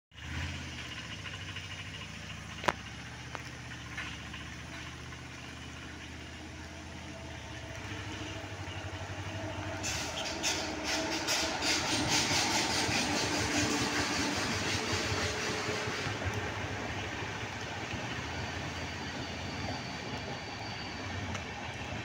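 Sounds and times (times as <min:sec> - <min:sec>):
electric locomotive humming: 0:00.2 - 0:22.0
wheels clattering on rail joints: 0:00.2 - 0:22.0.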